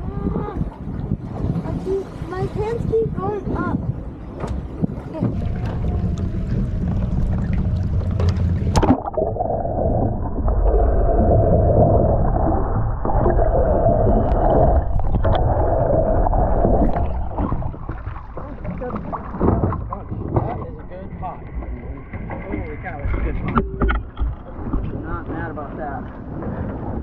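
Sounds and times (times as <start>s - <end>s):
boat motor rumble: 0.0s - 27.0s
water noise: 0.0s - 27.0s
wind: 0.0s - 27.0s.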